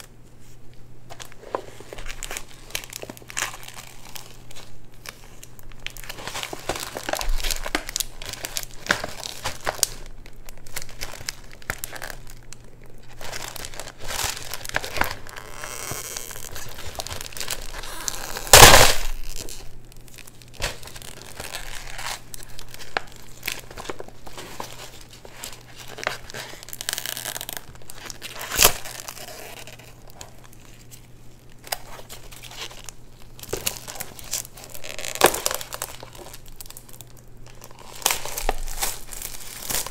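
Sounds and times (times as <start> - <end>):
paper wrappers crackling: 0.0 - 39.9.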